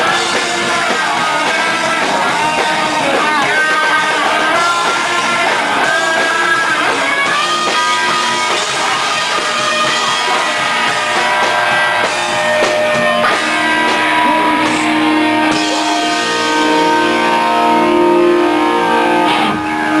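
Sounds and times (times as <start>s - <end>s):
punk band playing live: 0.0s - 20.0s.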